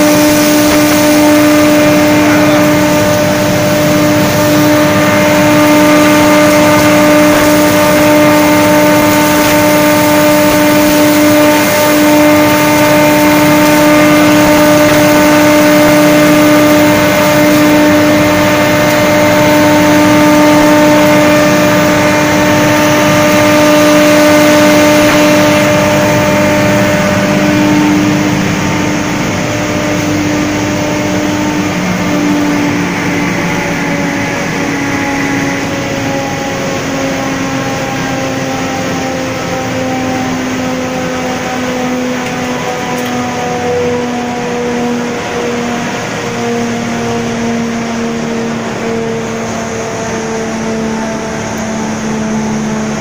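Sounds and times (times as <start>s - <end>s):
straw grinding machine whirring: 0.0s - 53.0s.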